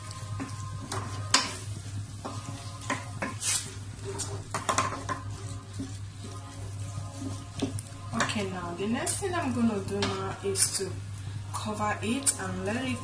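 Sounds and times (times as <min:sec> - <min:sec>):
wooden spoon scraping a pot: 0:00.0 - 0:10.9
meat sizzling: 0:00.0 - 0:13.0.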